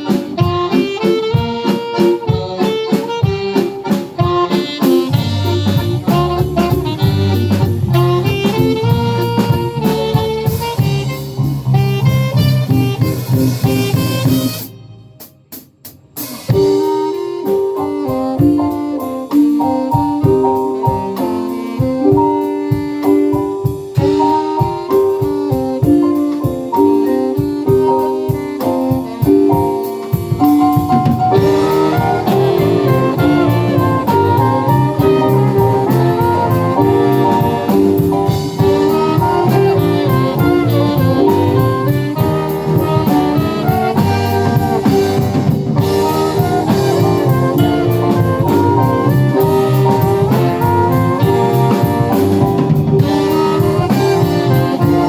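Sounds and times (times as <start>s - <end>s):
drum kit: 0.0s - 55.0s
live band playing pop song: 0.0s - 55.0s.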